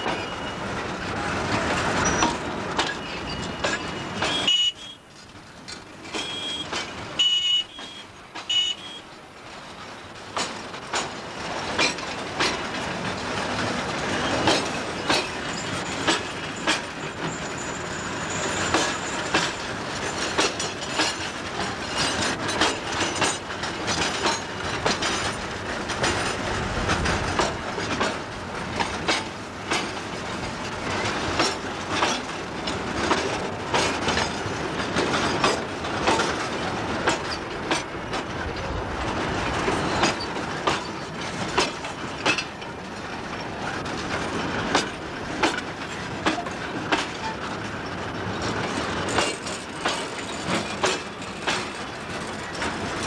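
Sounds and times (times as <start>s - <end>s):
steel wheels rumbling on rails: 0.0s - 53.0s
wheels clicking and clanking: 5.1s - 8.9s, 10.1s - 53.0s.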